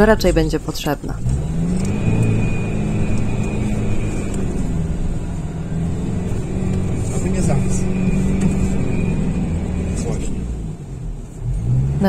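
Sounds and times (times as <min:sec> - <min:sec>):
off-road car engine revving: 0:00.0 - 0:12.0.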